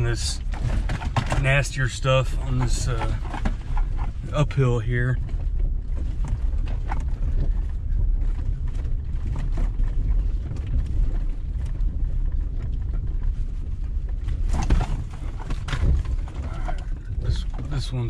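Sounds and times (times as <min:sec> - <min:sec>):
knocks and rattles: 0:00.0 - 0:18.0
truck rumbling over rock: 0:00.0 - 0:18.0.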